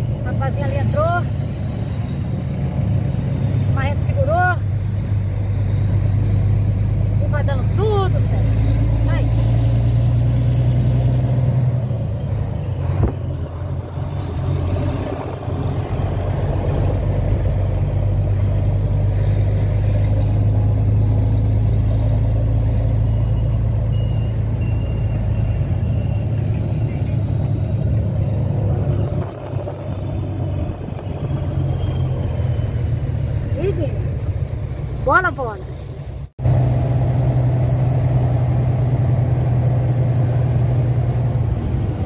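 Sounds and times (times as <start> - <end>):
truck diesel engine running: 0.0 - 42.0.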